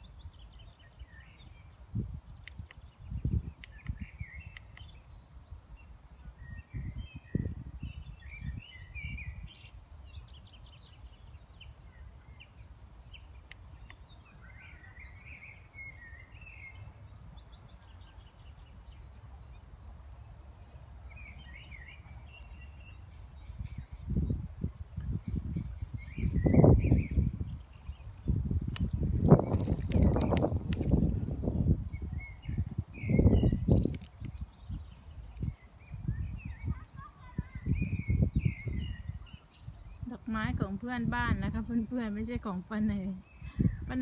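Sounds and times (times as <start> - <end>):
songbirds chirping: 0.0 - 44.0
wind buffeting microphone: 0.0 - 44.0.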